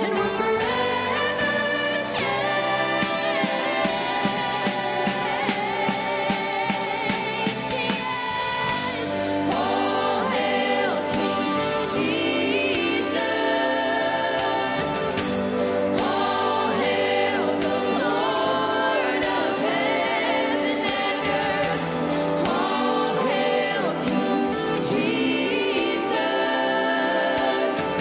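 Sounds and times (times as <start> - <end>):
group singing gospel song: 0.0 - 28.0
instrumental accompaniment: 0.0 - 28.0.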